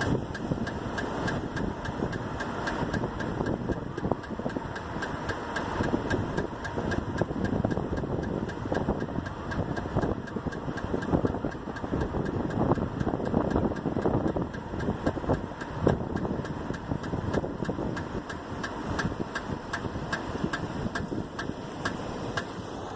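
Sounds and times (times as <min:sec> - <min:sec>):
wheel ticking or scraping: 0:00.0 - 0:22.6
car running noise: 0:00.0 - 0:22.9.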